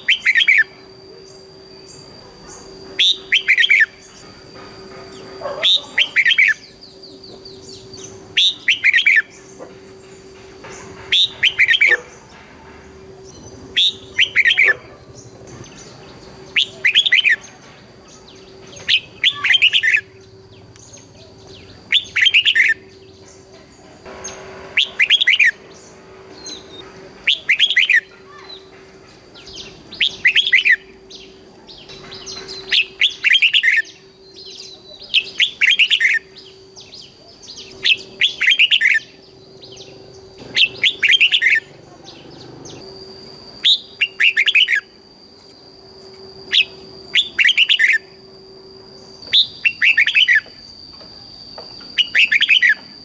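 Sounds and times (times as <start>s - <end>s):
bulbul singing: 0.0s - 53.0s
faint high whine: 0.0s - 53.0s
low hum: 0.0s - 53.0s.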